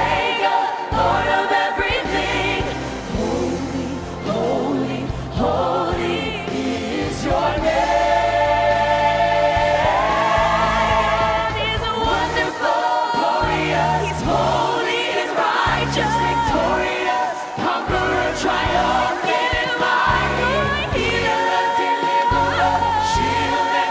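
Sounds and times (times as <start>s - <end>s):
choir singing gospel: 0.0s - 23.9s.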